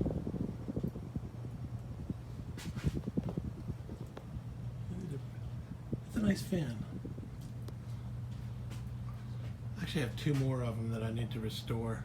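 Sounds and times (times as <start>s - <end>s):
ceiling fan thumping low: 0.0s - 11.0s
faint steady hum: 0.0s - 12.0s.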